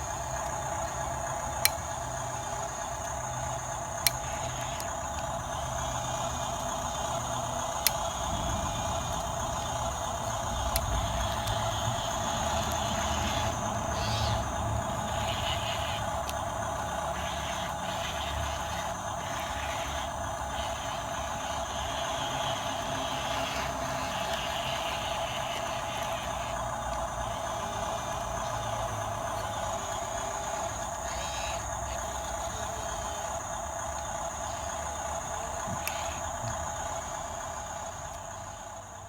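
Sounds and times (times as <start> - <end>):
small motors whining: 0.0 - 39.0.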